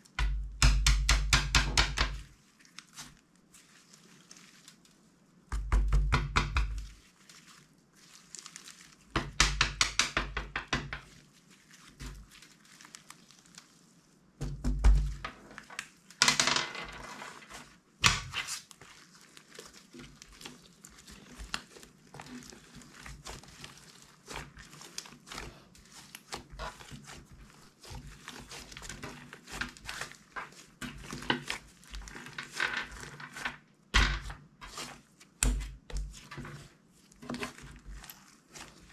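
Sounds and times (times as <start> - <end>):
slime squelches and crackles: 0.0 - 16.2, 17.0 - 38.9.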